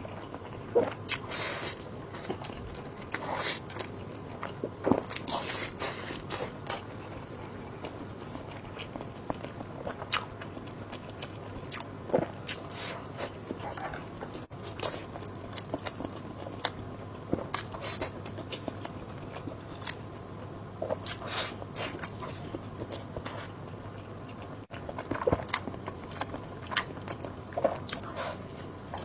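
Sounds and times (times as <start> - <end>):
person chewing food: 0.0 - 20.0, 20.8 - 29.0.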